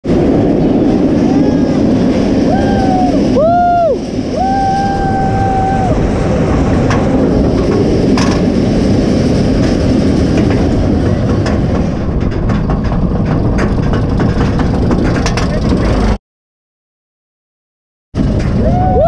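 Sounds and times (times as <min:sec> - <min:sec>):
roller coaster lift chain clattering: 0:00.1 - 0:16.2, 0:18.2 - 0:19.0.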